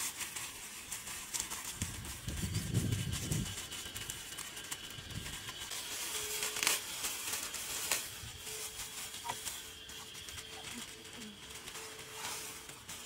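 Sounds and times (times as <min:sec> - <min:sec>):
dry leaf thatch rustling: 0:00.0 - 0:13.0
sharp crackles: 0:00.0 - 0:13.0.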